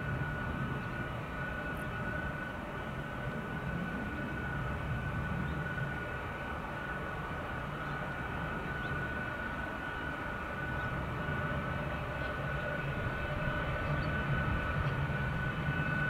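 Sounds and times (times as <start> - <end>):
jet engines whining and rumbling: 0.0 - 16.0.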